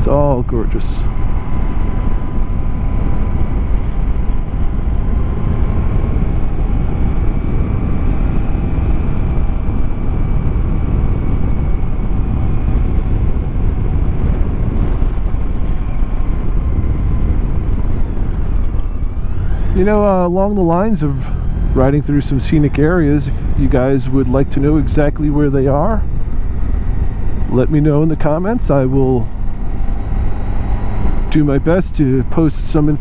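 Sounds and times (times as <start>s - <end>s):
motorcycle engine hum: 0.0s - 33.0s
wind and road noise: 0.0s - 33.0s.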